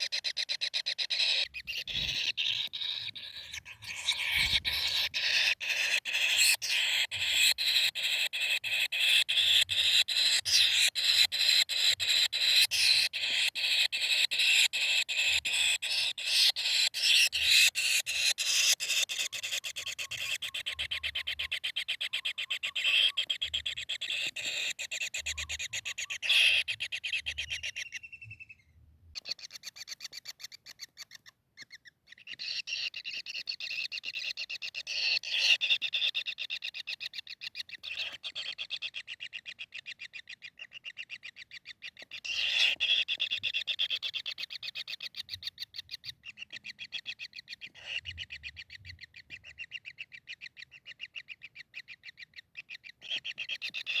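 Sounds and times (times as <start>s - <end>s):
kingfisher calling: 0.0s - 28.6s, 32.1s - 54.0s.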